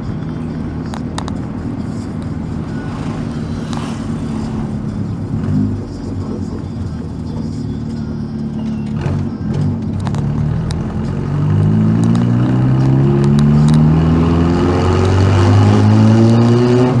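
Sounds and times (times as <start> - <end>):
car engine through loud exhaust: 0.0 - 17.0.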